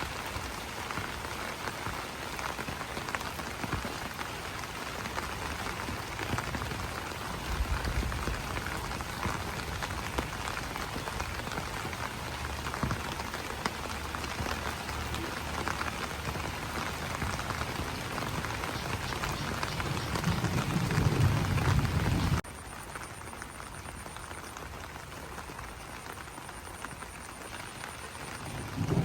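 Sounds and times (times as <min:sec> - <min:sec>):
rain pattering on leaves: 0:00.0 - 0:29.0.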